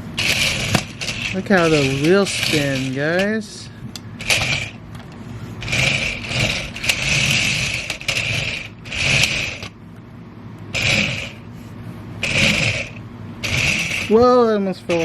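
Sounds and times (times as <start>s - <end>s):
toy motors whirring: 0.0s - 3.5s, 4.2s - 9.8s, 10.7s - 11.5s, 12.2s - 15.0s.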